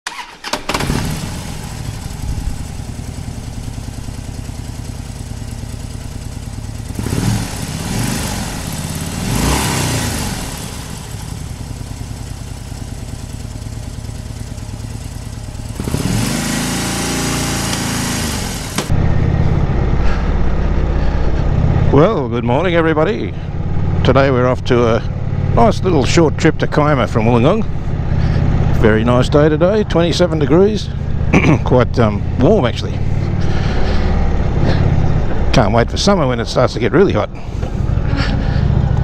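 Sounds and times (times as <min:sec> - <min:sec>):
motorcycle engine idling: 0:00.1 - 0:36.7.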